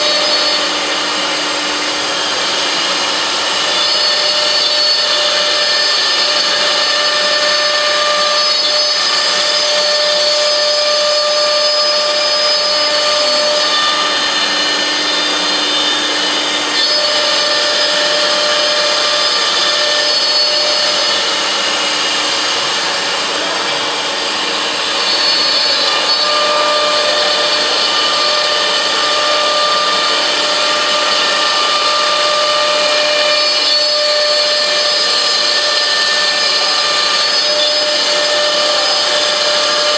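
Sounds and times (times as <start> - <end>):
high spindle whine: 0.0 - 39.9
router spindle cutting: 0.0 - 39.9.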